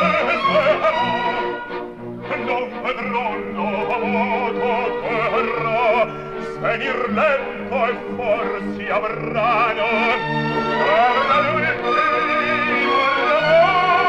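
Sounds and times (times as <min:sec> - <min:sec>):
operatic baritone singing: 0:00.0 - 0:14.0
orchestra accompaniment: 0:00.0 - 0:14.0.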